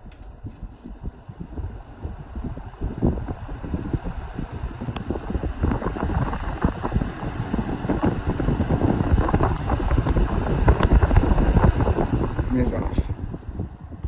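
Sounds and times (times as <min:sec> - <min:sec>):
box fan airflow rushing: 0:00.0 - 0:14.0.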